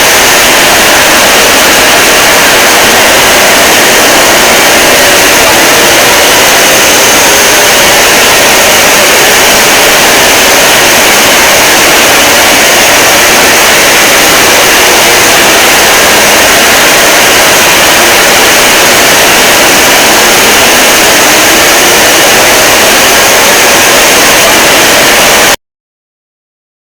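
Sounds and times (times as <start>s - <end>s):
overdriven alert noise: 0.0s - 25.6s.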